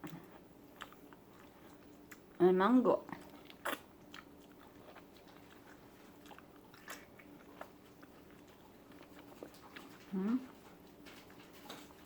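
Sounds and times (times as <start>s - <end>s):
person chewing soft fruit: 0.0s - 12.0s.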